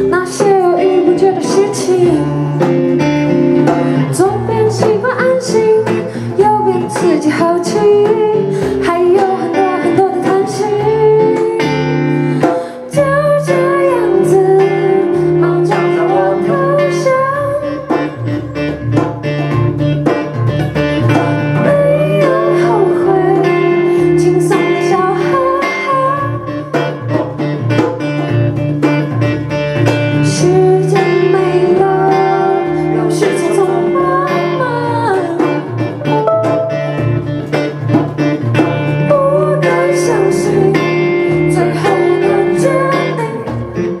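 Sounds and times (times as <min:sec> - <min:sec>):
person singing: 0:00.0 - 0:19.6, 0:21.1 - 0:27.4, 0:30.1 - 0:37.3, 0:38.6 - 0:44.0
plucked guitar: 0:00.0 - 0:44.0.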